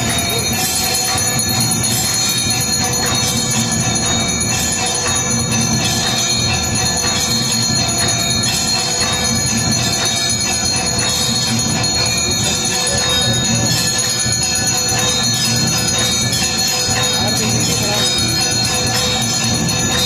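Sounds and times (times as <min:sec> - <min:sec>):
bells ringing rapidly: 0:00.0 - 0:20.0.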